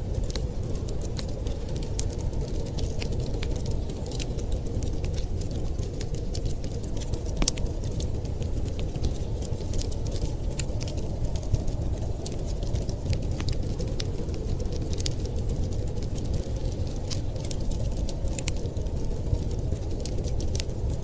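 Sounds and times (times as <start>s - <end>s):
storm wind rushing: 0.0s - 21.0s
wood fire crackling: 0.0s - 21.0s.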